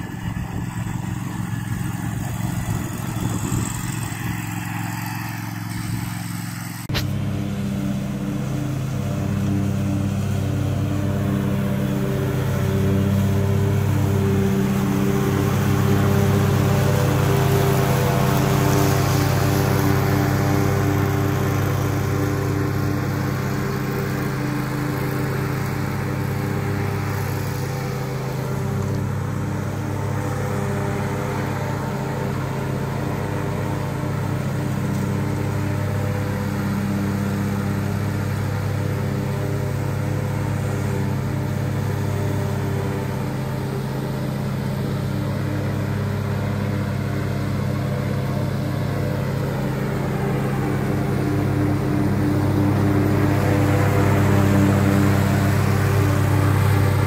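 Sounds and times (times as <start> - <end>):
mower engine running steadily: 0.0 - 57.0.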